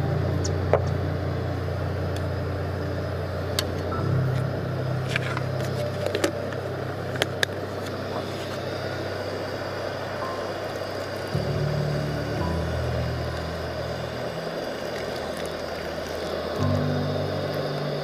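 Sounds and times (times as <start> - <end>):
steady low mechanical hum: 0.0 - 18.0.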